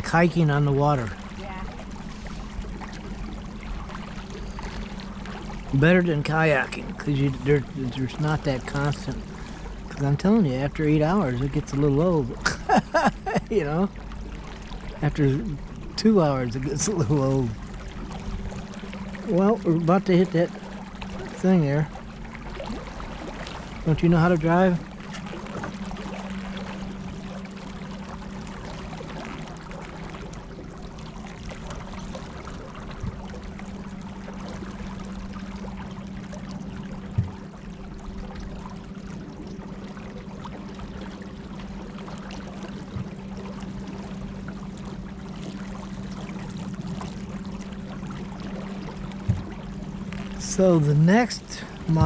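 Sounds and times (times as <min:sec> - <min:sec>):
electric boat motor humming: 0:00.0 - 0:52.0
water splashing around hull: 0:00.0 - 0:52.0.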